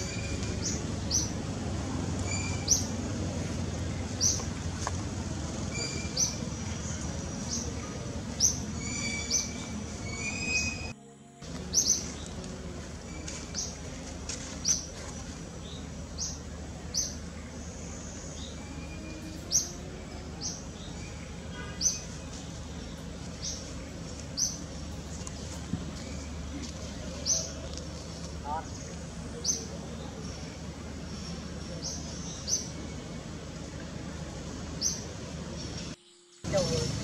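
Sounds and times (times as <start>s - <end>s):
birds chirping: 0.0s - 37.0s
low background rumble: 0.0s - 37.0s.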